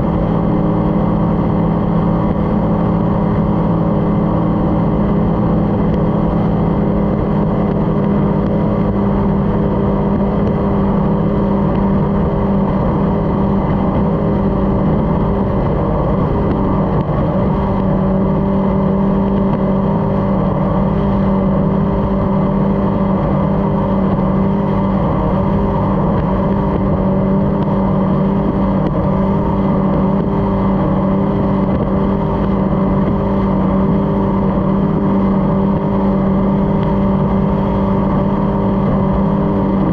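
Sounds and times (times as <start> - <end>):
powerboat engine running: 0.0 - 39.9.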